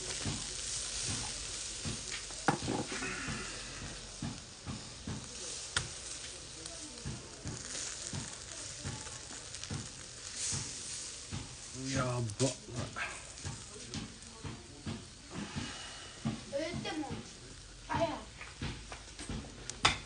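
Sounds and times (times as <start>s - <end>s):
chicken sizzling on grill: 0.0s - 20.0s
skewers clicking on grill: 0.0s - 20.0s.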